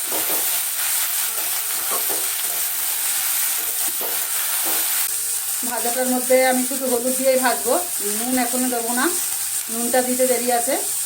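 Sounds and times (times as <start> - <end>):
spatula scraping a pan: 0.0 - 9.0
vegetables sizzling in hot oil: 0.0 - 11.0.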